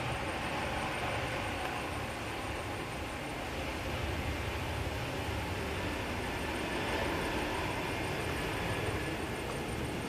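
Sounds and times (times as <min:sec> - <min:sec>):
airliner jet engines: 0:00.0 - 0:10.0.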